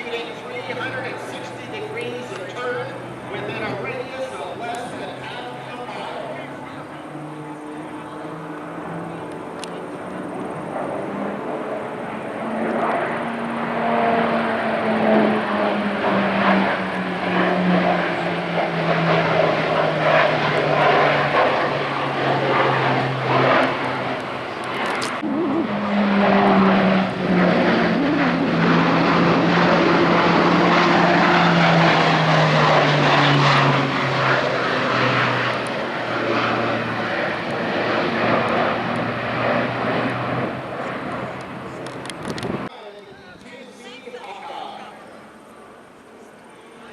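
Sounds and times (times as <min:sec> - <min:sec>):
turboprop engines droning: 0:00.0 - 0:46.9.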